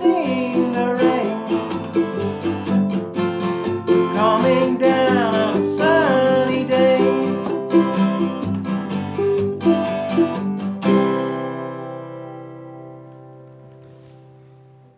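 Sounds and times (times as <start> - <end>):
acoustic guitar strumming: 0.0 - 14.9
ukulele strumming: 0.0 - 14.9.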